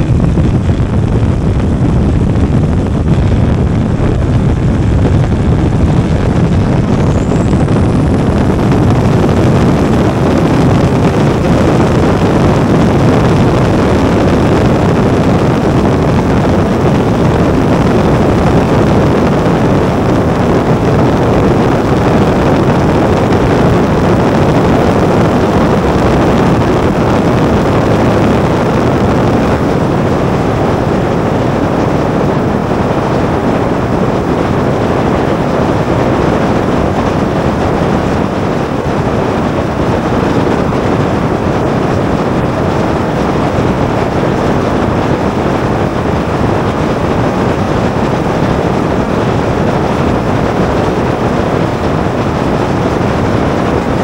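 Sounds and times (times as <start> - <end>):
airplane engine and propeller: 0.0 - 54.0
wind rush over microphone: 0.0 - 54.0.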